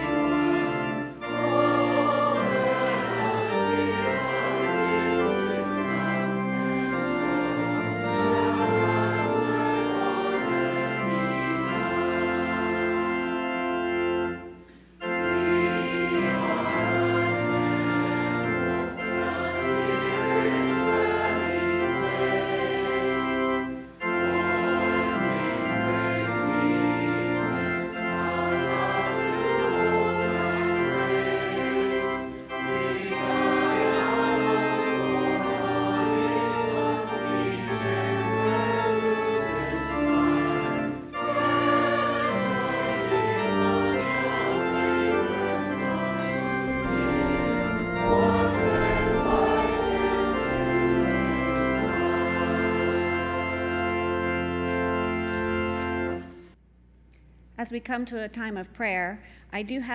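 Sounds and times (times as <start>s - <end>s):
church organ playing chords: 0.0s - 56.6s.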